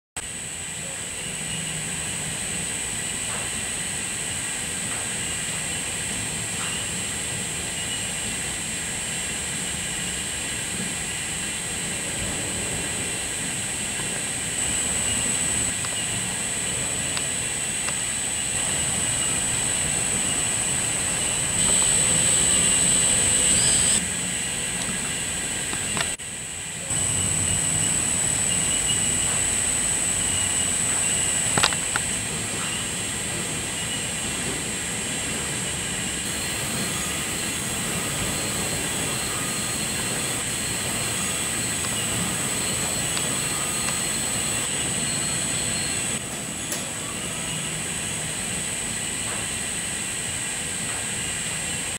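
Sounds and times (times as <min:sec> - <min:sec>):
machinery mechanical noise: 0:00.2 - 0:51.9
turntable drive hum with whine: 0:00.2 - 0:51.9.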